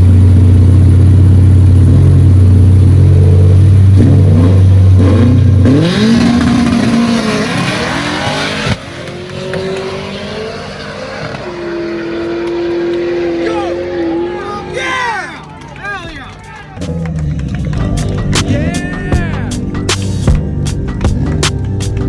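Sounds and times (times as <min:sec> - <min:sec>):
race car engine revving: 0:00.0 - 0:18.8.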